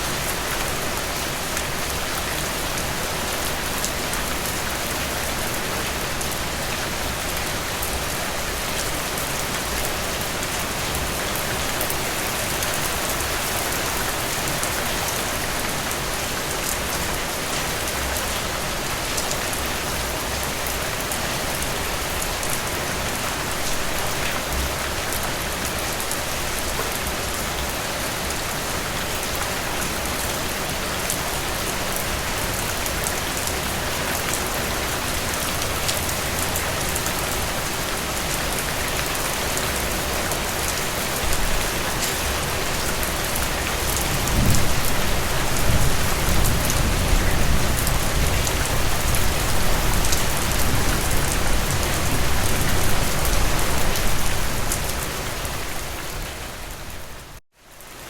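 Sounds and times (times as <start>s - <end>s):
rain falling through trees: 0.0s - 58.0s.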